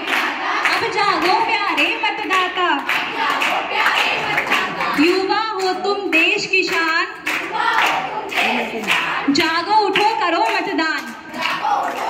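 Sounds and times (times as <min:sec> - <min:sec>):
hands clapping in rhythm: 0:00.0 - 0:12.0
women singing together: 0:00.0 - 0:12.0.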